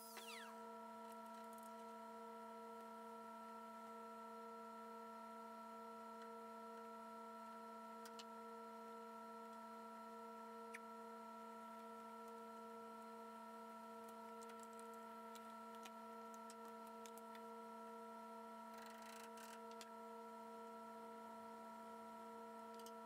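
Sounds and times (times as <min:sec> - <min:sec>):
faint hum of held tones: 0:00.0 - 0:23.0.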